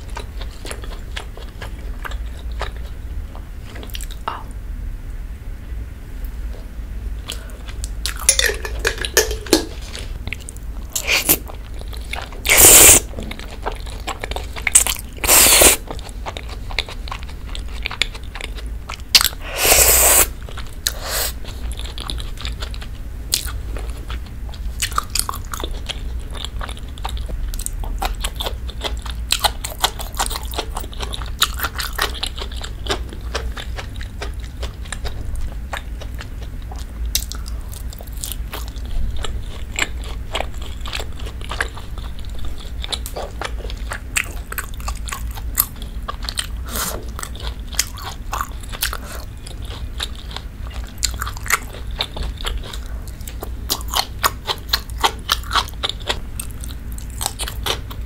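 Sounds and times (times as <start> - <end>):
close chewing with wet mouth clicks: 0.0 - 4.3, 10.2 - 58.0.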